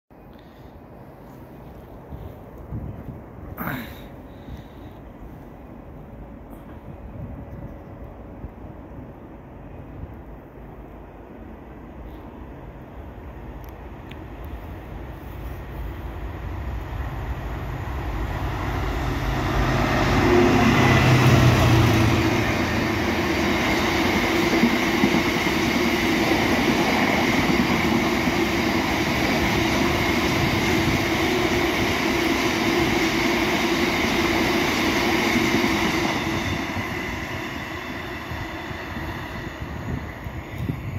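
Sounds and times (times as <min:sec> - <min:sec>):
freight train passing: 0:00.2 - 0:40.9.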